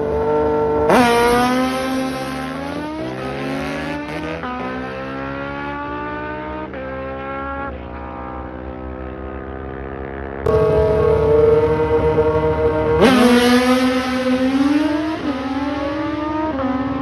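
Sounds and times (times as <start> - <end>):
motorcycle engine at full throttle: 0.0 - 17.0.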